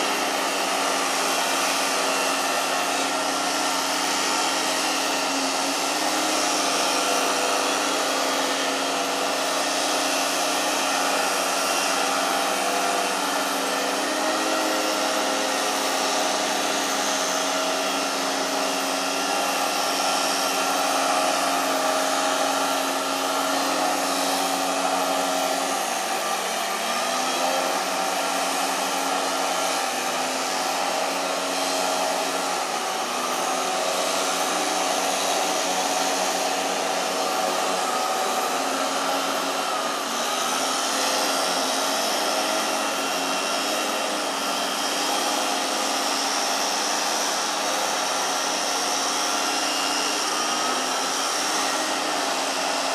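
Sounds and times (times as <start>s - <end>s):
motor humming and hissing: 0.0s - 52.9s.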